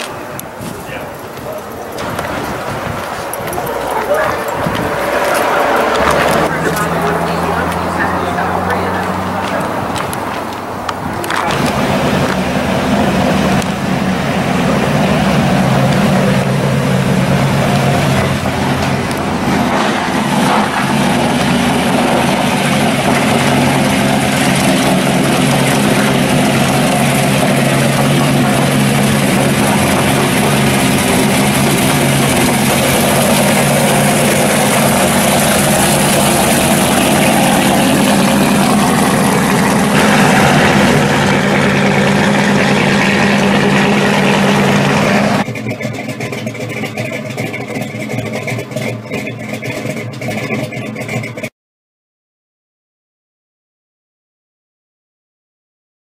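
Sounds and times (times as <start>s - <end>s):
car engine exhaust rumble: 0.0s - 51.5s.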